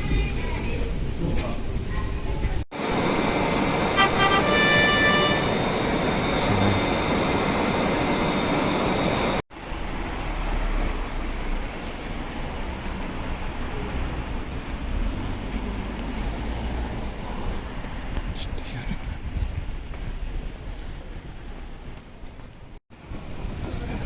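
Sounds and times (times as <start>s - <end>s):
moving vehicle noise: 0.0s - 24.0s.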